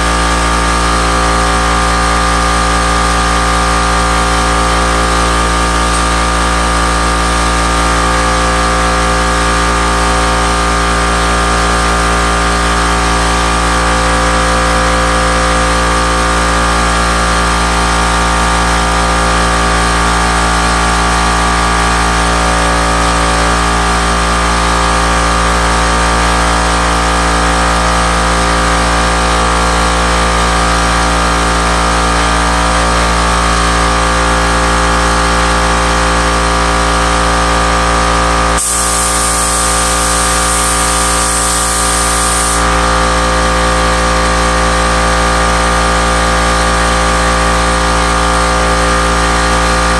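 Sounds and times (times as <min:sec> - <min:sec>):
air compressor running: 0:00.0 - 0:49.9.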